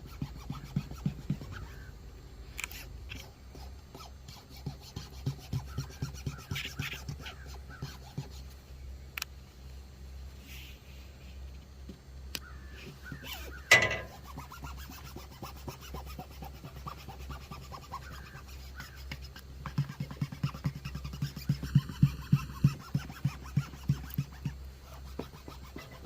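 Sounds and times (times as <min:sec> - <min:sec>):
rubbing strokes on vinyl decal: 0:00.0 - 0:02.0, 0:02.7 - 0:08.7, 0:12.6 - 0:26.0.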